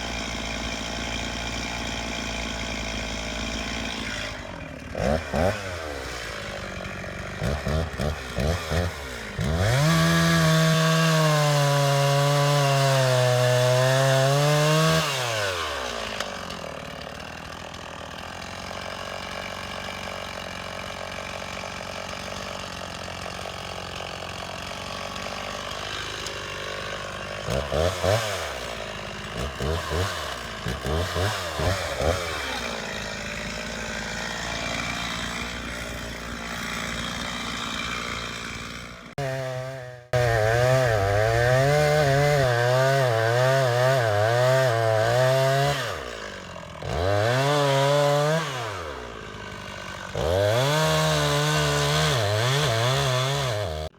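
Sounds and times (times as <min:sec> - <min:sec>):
chainsaw revving and cutting: 0:00.0 - 0:53.9.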